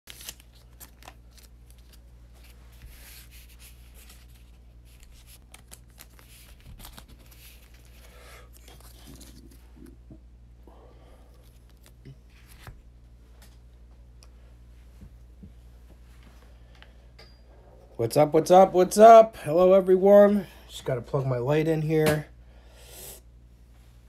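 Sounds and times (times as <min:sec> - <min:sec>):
steady low hum: 0:00.3 - 0:24.0.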